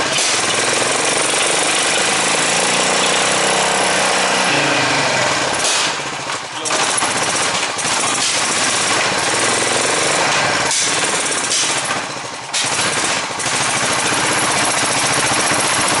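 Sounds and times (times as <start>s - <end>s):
single-cylinder motorcycle engine running: 0.0s - 16.0s.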